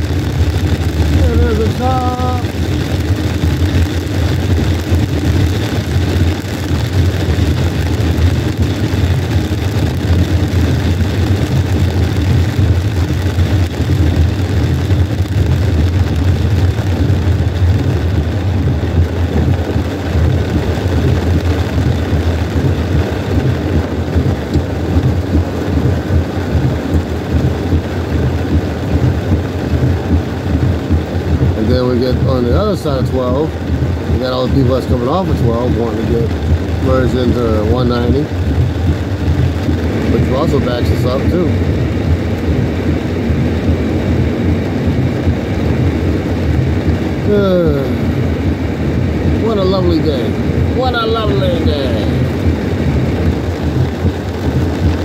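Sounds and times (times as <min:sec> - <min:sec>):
tyres hissing on wet road: 0:00.0 - 0:42.0, 0:42.8 - 0:55.0
car cabin rumble: 0:00.0 - 0:55.0
rain on car: 0:00.0 - 0:55.0.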